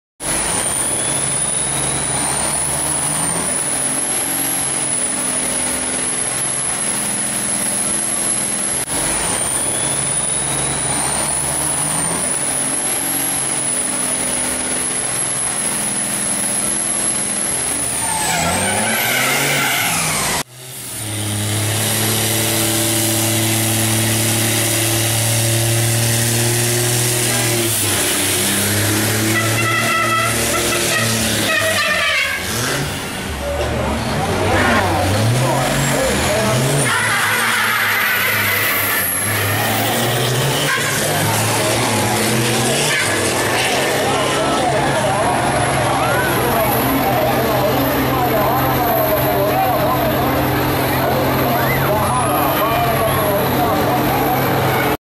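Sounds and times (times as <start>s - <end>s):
truck engine revving high: 0.2s - 55.0s.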